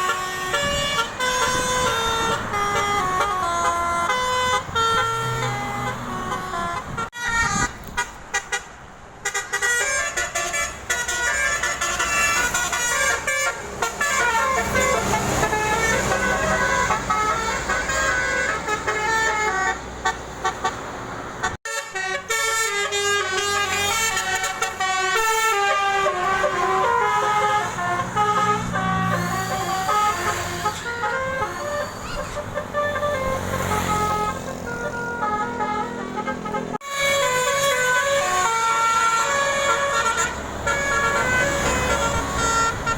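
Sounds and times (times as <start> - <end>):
bus engines rumbling: 0.0 - 42.9
bus horns playing a tune: 0.0 - 42.9.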